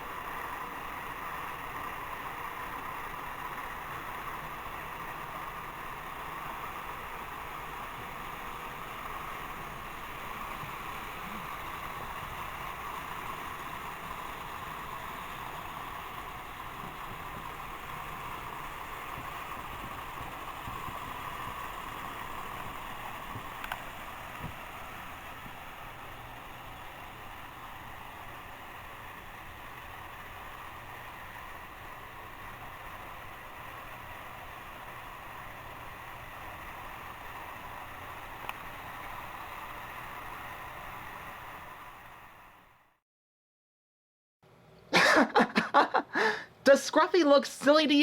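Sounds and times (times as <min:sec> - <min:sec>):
toy trains whirring on track: 0:00.0 - 0:43.0.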